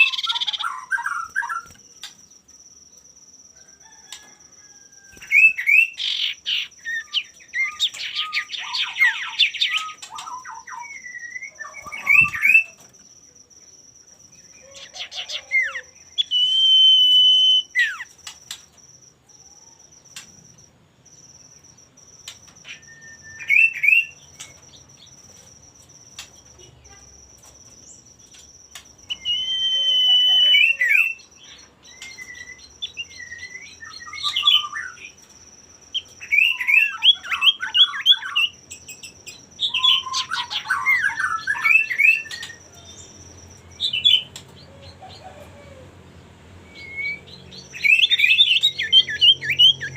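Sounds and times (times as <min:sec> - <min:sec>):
bird singing whistled notes: 0:00.0 - 0:03.0, 0:03.8 - 0:45.4, 0:46.6 - 0:49.9
faint high whine: 0:00.0 - 0:45.4.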